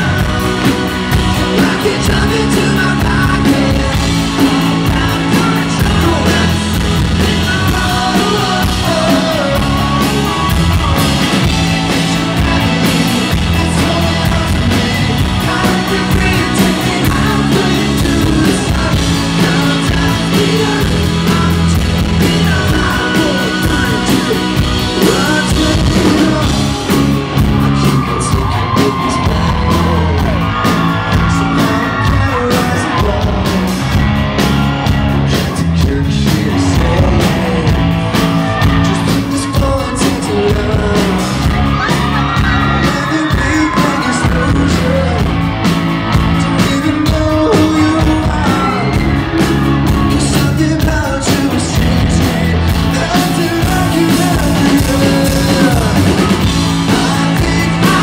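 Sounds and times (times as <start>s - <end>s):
man singing: 0.0s - 45.5s, 46.1s - 58.0s
pop-rock band playing: 0.0s - 58.0s.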